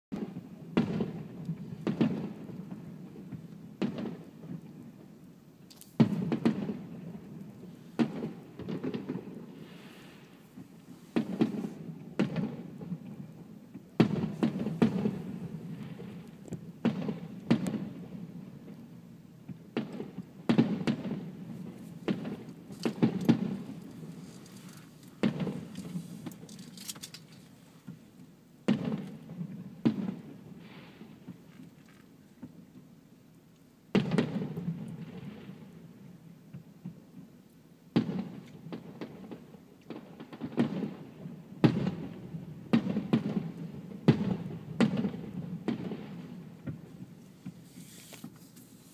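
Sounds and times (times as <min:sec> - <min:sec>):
fireworks booming: 0:00.1 - 0:26.5, 0:27.8 - 0:31.5, 0:33.9 - 0:37.1, 0:37.9 - 0:48.5.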